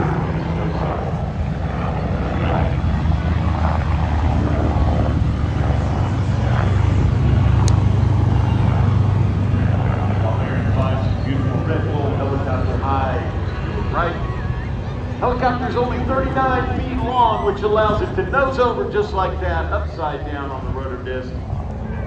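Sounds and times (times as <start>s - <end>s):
helicopter rotor and turbine drone: 0.0s - 22.0s.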